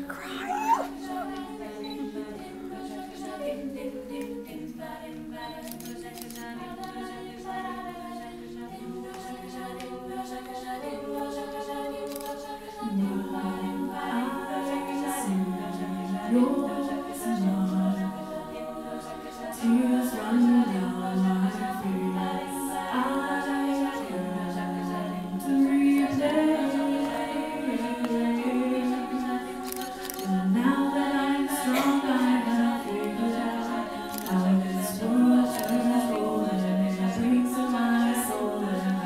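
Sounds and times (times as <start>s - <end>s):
female a cappella group singing: 0.0s - 39.0s.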